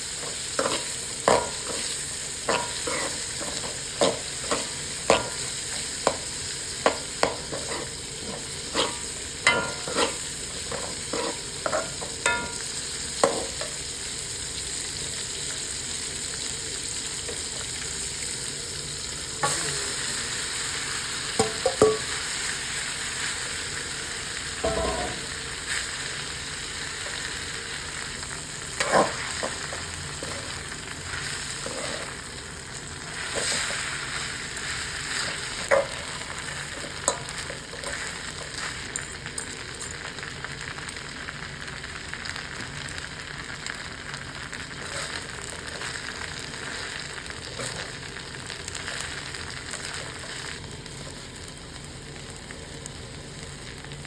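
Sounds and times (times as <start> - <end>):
noodles sizzling in a pan: 0.0 - 54.0.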